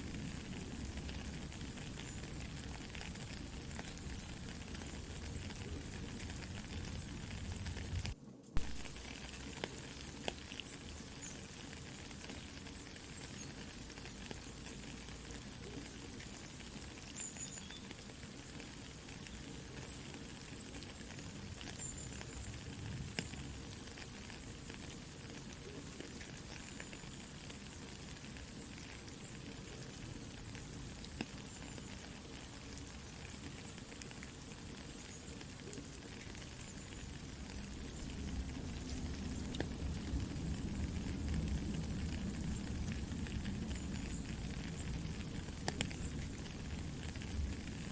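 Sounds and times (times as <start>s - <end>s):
campfire crackling and popping: 0.0s - 47.9s
soft steady rain: 0.0s - 47.9s.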